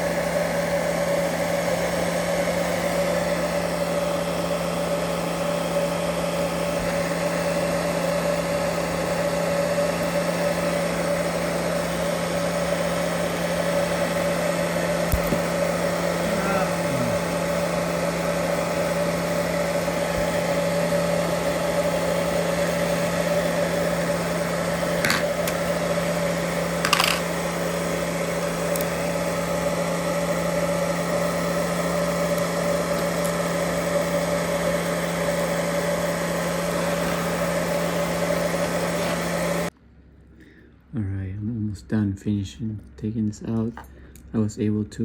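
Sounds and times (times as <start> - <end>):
hot-air blower humming: 0.0 - 42.1.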